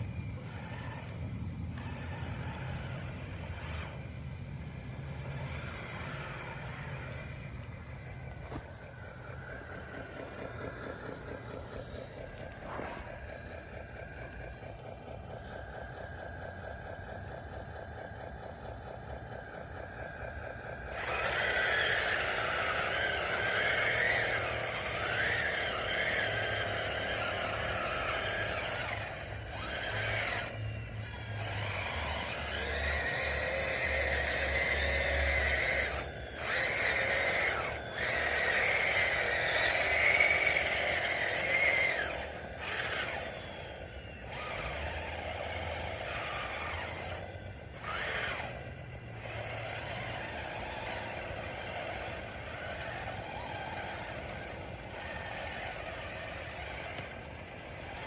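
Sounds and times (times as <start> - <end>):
electric motor whine: 0.0 - 58.0.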